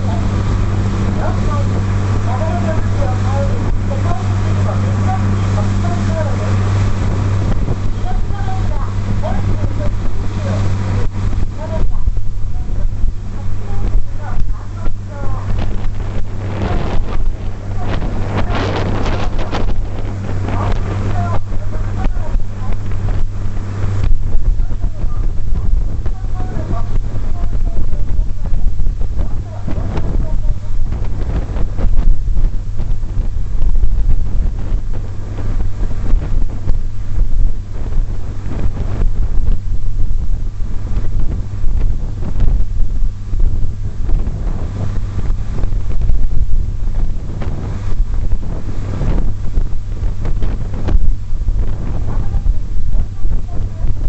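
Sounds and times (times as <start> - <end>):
ferry engine droning: 0.0 - 54.0
wind buffeting microphone: 0.0 - 54.0.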